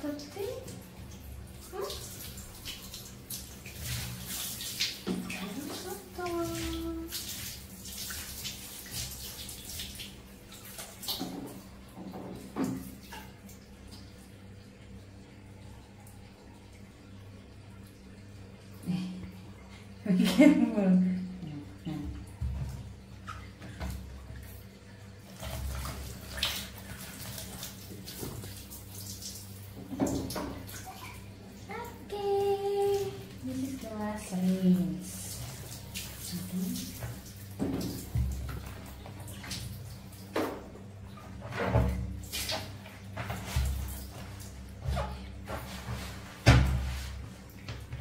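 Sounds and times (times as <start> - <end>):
water splashing and dripping: 0.0 - 48.0.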